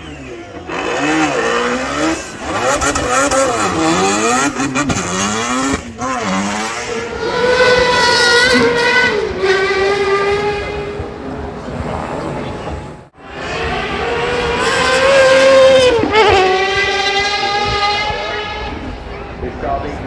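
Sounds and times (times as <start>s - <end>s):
racing car engine revving: 0.0s - 20.0s.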